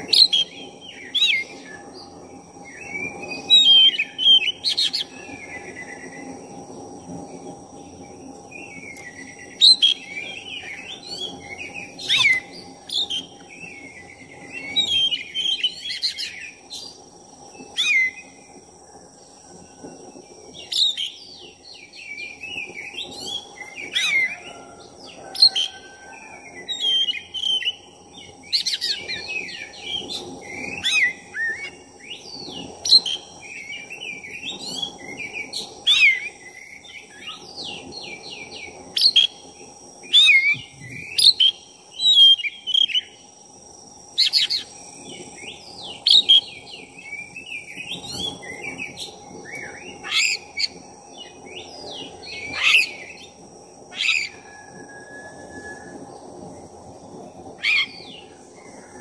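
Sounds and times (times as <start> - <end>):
steady high whine: 0.0 - 59.0.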